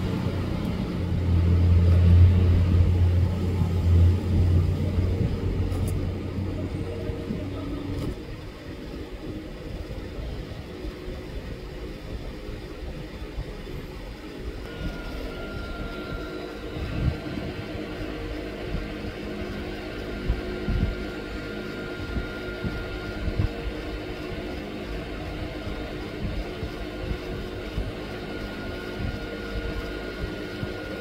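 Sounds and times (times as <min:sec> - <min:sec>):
low rumbling hum: 0:00.0 - 0:31.0.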